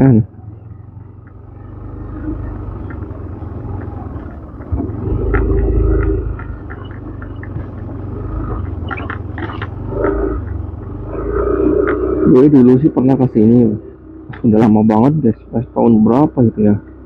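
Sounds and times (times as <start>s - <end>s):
scooter engine rumbling: 0.0s - 17.0s
scooter rattling over bumps: 0.0s - 17.0s.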